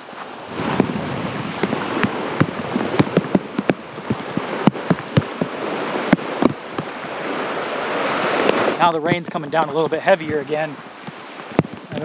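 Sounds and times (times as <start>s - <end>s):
rain falling: 0.5s - 12.0s
sharp taps of raindrops: 0.7s - 7.0s, 8.4s - 12.0s.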